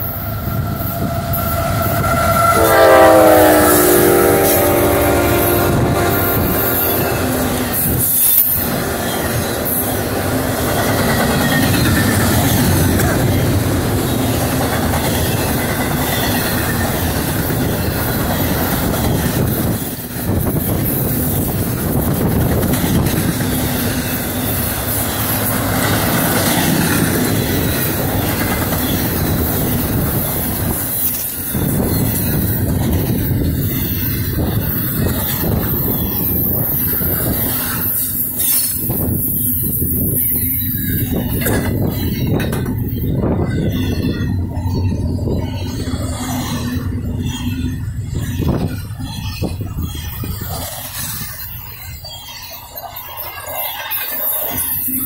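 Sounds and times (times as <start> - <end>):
steel wheels running on rails: 0.0 - 55.0.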